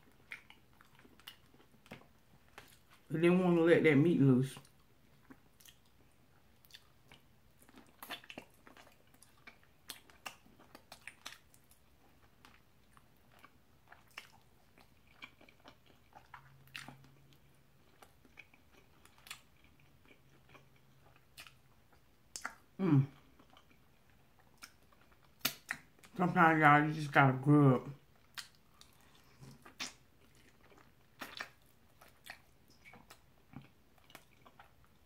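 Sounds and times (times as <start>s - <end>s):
chewing and biting: 0.0s - 3.1s, 4.6s - 26.2s, 28.1s - 35.0s.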